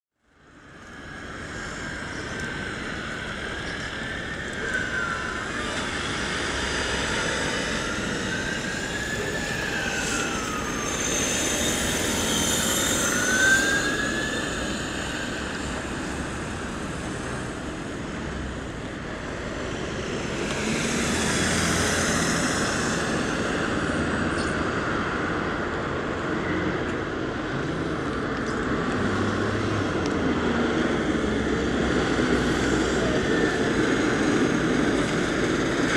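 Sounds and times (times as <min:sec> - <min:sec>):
fire engine engine: 0:00.2 - 0:35.9
road traffic: 0:00.2 - 0:35.9
fire engine siren wailing: 0:00.4 - 0:35.9
cars passing: 0:00.5 - 0:35.9.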